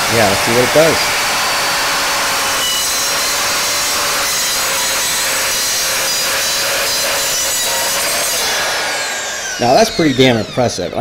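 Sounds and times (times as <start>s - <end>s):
miter saw cutting wood: 0.0s - 11.0s.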